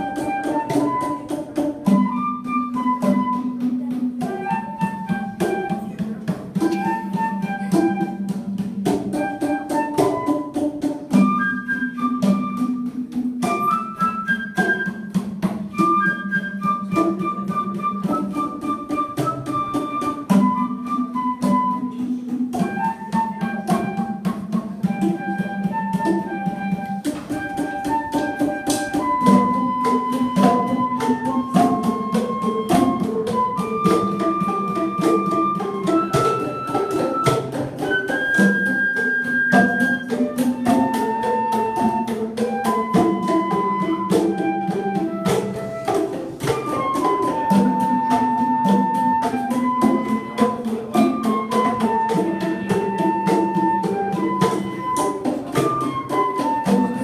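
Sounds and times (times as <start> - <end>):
flute playing a melody: 0.0 - 57.0.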